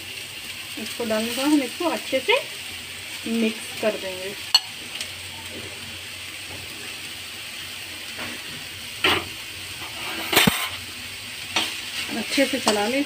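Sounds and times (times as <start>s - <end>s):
food sizzling in hot fat: 0.0s - 13.0s.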